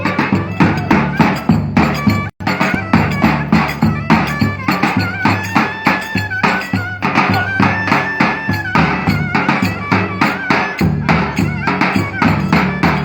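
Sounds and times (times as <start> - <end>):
drums fast steady beat: 0.0 - 13.0.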